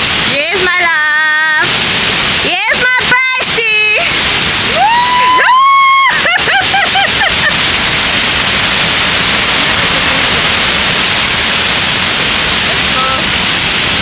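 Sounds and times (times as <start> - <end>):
loud rushing hiss: 0.0 - 14.0.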